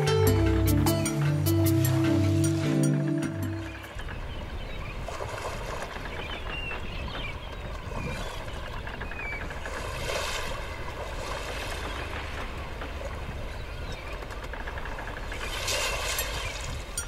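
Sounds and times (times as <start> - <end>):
boat engine rumble: 0.0 - 17.0
wind and water rushing: 0.0 - 17.0.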